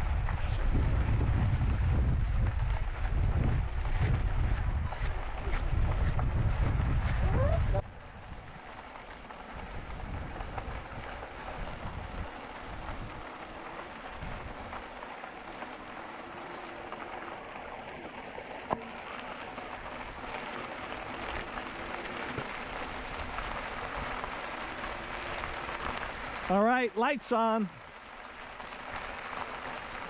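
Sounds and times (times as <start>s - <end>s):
bike tyres rolling on trail: 0.0s - 30.0s.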